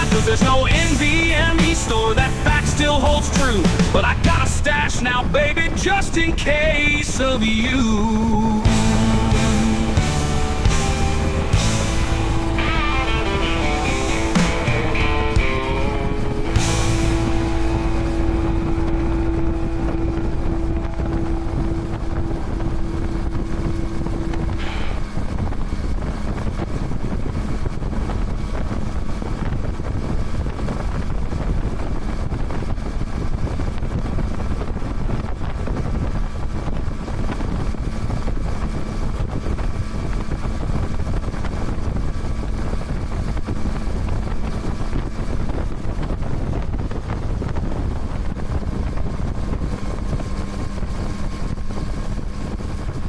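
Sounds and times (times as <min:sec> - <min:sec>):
heavy wind noise on microphone: 0:00.0 - 0:53.0
motorcycle engine cruising: 0:00.0 - 0:53.0.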